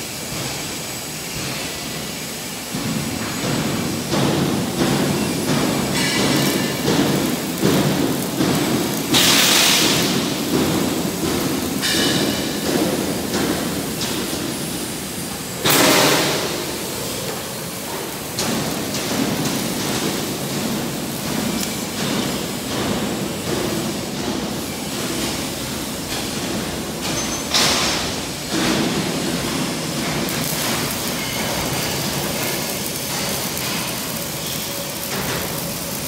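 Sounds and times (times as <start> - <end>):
factory hall din: 0.0 - 36.0.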